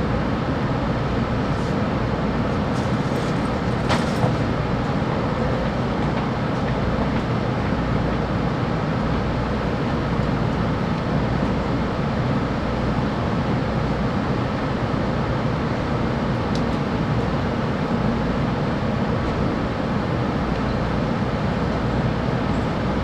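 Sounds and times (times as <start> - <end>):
train running noise: 0.0 - 23.0.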